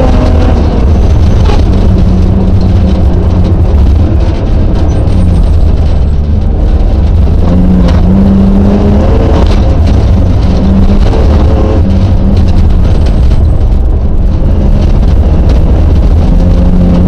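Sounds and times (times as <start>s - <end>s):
rally car engine revving: 0.0s - 17.0s
road noise: 0.0s - 17.0s.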